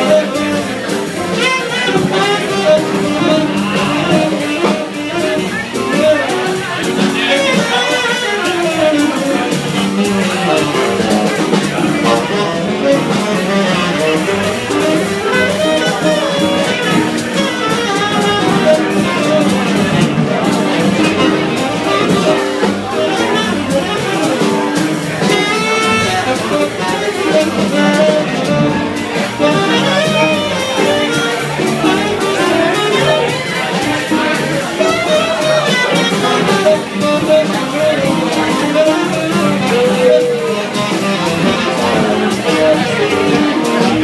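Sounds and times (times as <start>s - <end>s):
double bass: 0.0s - 44.0s
electric guitar: 0.0s - 44.0s
saxophone melody: 0.0s - 44.0s.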